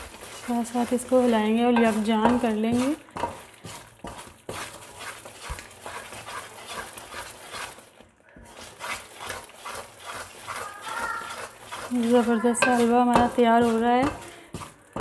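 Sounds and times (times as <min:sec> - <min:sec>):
wooden spatula scraping steel pan: 0:00.0 - 0:15.0.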